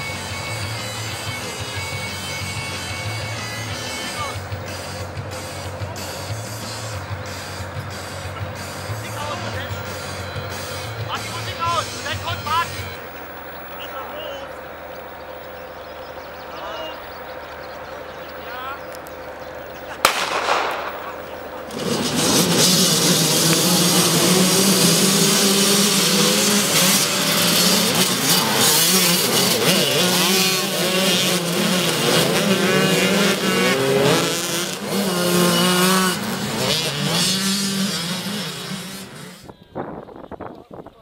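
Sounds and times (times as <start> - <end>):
motocross bikes revving: 0.0 - 39.6.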